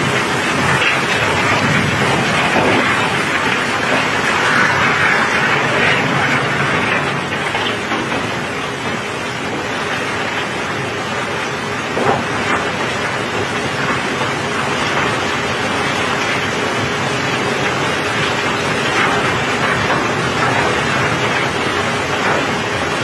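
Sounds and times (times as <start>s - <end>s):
cobblestones pouring and clattering: 0.0s - 23.0s
rain falling on deck: 0.0s - 23.0s.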